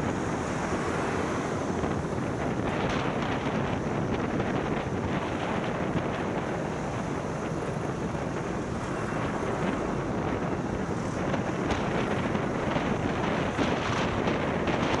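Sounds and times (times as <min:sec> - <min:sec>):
road and traffic noise: 0:00.0 - 0:15.0
wind rushing over microphone: 0:00.0 - 0:15.0.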